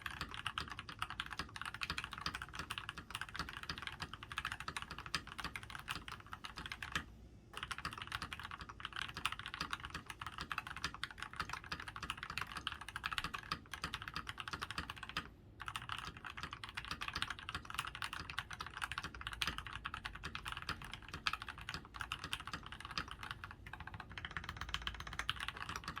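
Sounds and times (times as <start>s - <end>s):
fast typing on mechanical keyboard: 0.0s - 26.0s.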